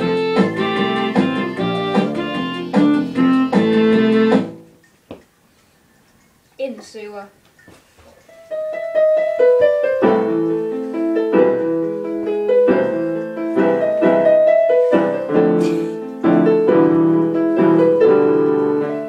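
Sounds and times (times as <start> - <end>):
piano music: 0.0 - 4.8, 8.3 - 19.0.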